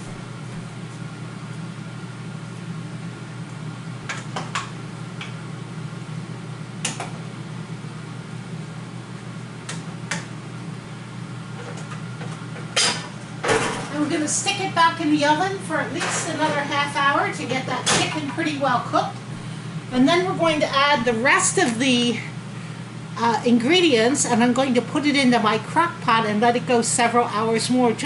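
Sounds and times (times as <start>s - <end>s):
appliance fan humming: 0.0s - 28.0s.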